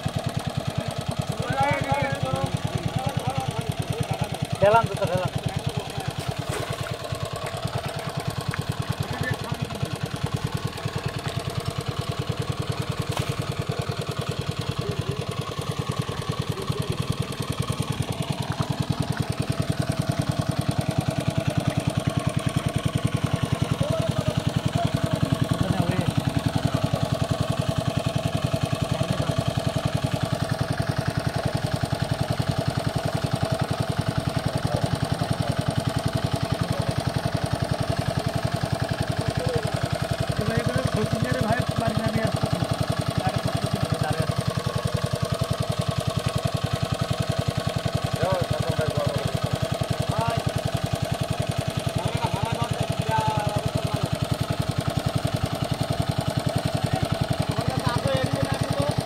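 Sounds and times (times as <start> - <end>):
small engine chugging: 0.0 - 59.0.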